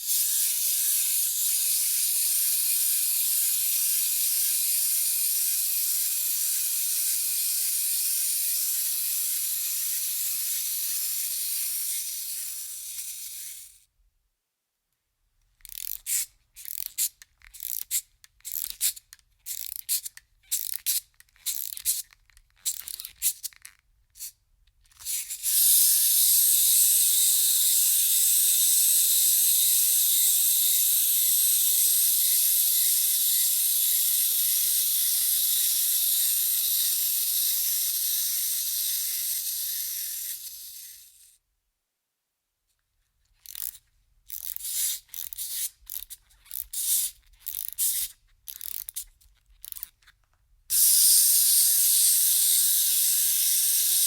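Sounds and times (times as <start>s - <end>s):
clockwork spring whirring: 0.0s - 13.8s, 15.6s - 23.7s, 25.0s - 41.3s, 43.4s - 50.0s, 50.7s - 54.0s
wind-up key ratcheting: 0.0s - 13.8s, 15.6s - 41.2s, 43.3s - 54.0s.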